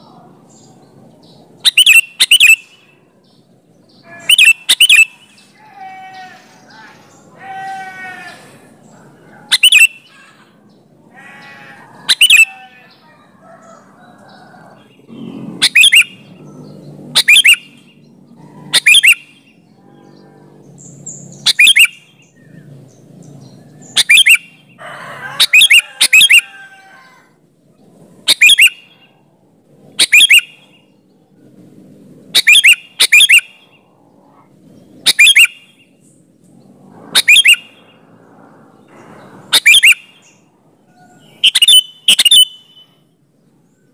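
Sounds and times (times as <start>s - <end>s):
bird calling: 0.0s - 43.9s.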